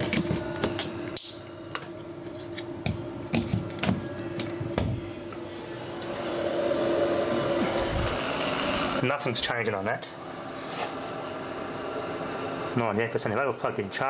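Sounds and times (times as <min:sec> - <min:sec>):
electrical buzz from speakers: 0:00.0 - 0:13.6.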